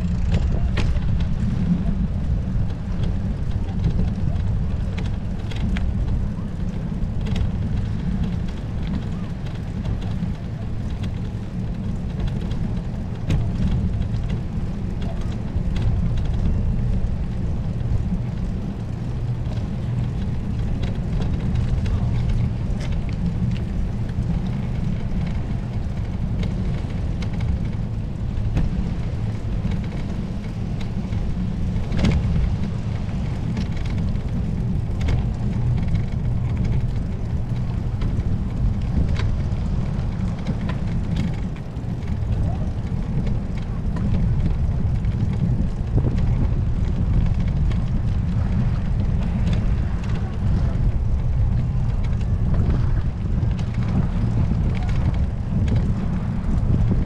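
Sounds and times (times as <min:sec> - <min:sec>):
knocks and rattles: 0:00.0 - 0:57.0
wind buffeting microphone: 0:00.0 - 0:57.0.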